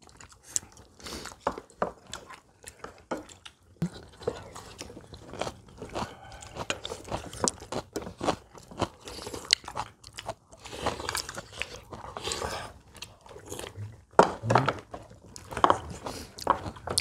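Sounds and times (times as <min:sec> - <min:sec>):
people chewing: 0:00.0 - 0:17.0.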